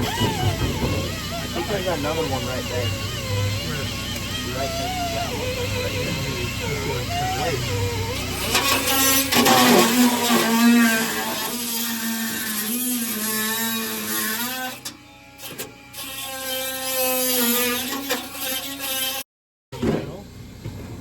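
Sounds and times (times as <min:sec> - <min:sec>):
electric drill whining: 0:00.0 - 0:19.2.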